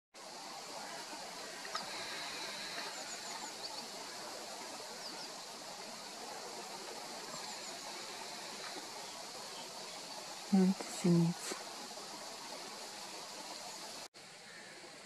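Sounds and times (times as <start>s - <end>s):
steady outdoor hiss: 0.2s - 15.0s.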